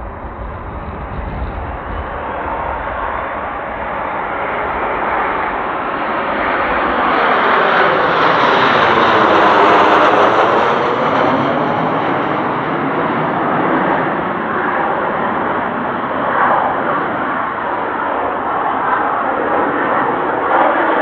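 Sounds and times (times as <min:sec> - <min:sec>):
jets flying past overhead: 0:00.0 - 0:21.0.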